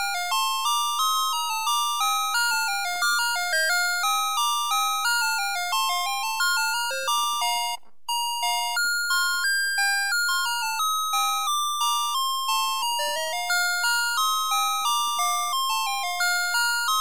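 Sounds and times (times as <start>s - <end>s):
electronic toy beeping tune: 0.0s - 17.0s.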